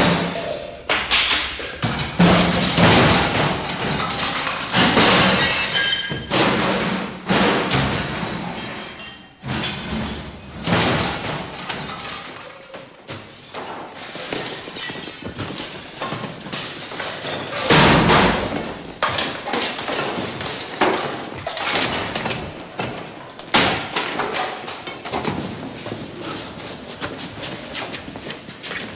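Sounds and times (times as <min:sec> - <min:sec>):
crashes and breaking: 0:00.0 - 0:12.4, 0:14.3 - 0:25.5.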